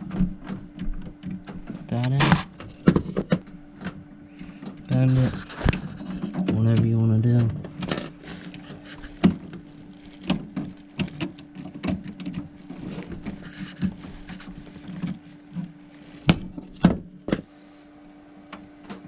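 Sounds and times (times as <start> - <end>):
steady low hum: 0.0 - 19.0
wires clicking and scraping in metal panel: 0.4 - 7.0, 7.6 - 17.3.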